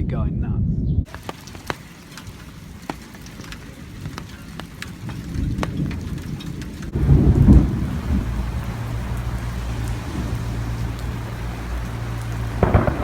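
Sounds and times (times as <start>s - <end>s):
torrential rain: 1.1s - 13.0s
low rumble of thunder: 2.6s - 13.0s.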